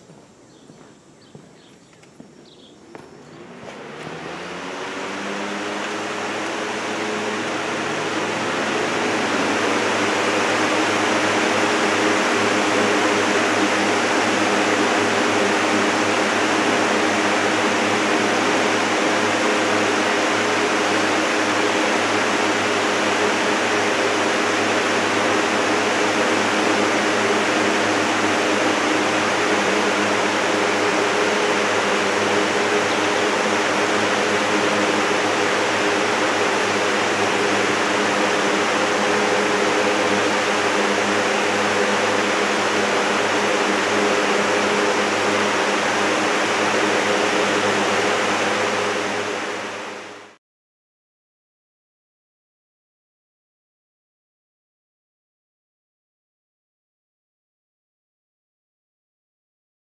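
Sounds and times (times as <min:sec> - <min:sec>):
fan air rushing: 0:00.0 - 0:50.4
low motor hum: 0:00.0 - 0:50.4.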